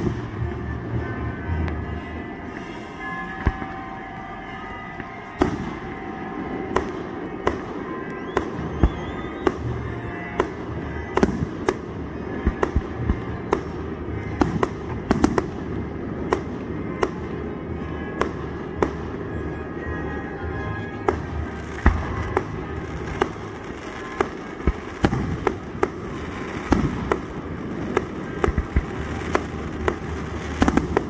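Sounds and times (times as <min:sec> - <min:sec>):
fireworks bangs: 0:00.0 - 0:31.0
rising firework whistle: 0:00.0 - 0:31.0.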